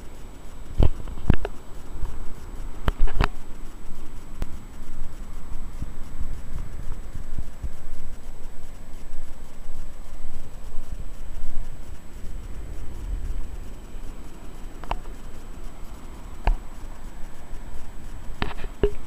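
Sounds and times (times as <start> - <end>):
surf on sandy beach: 0.0 - 19.0
wind rumbling on microphone: 0.0 - 19.0.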